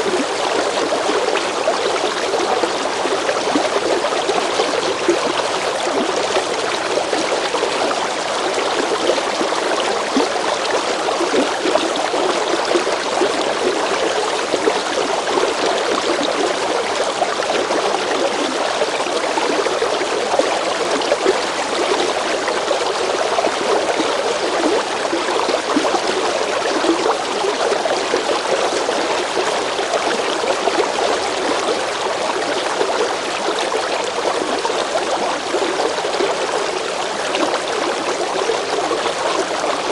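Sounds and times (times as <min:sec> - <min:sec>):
river water over stones: 0:00.0 - 0:39.9.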